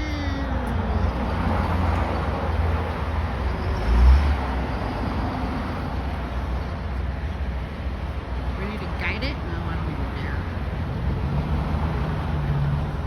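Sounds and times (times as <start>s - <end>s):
heavy machine engine rumbling: 0.0s - 13.0s.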